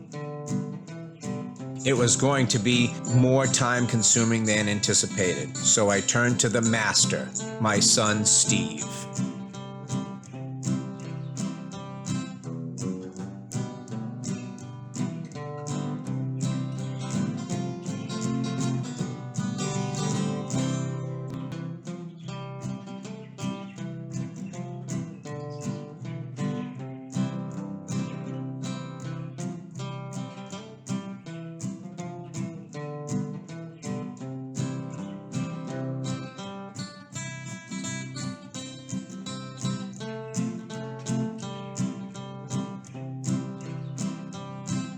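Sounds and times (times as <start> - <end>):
acoustic guitar music: 0.0 - 44.9.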